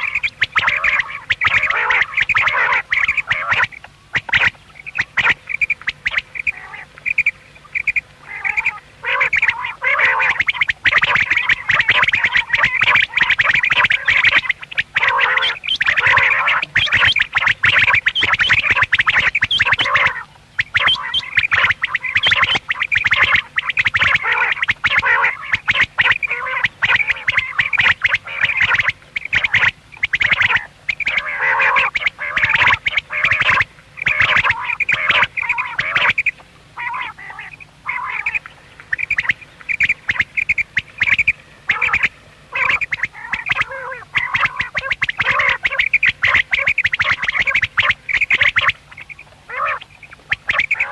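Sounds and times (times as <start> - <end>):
quails calling: 0.0 - 50.9.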